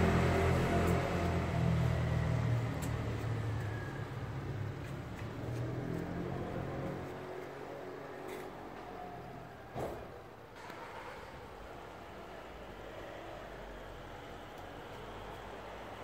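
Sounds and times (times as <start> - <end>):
passing vehicle engine rumble: 0.0 - 16.0.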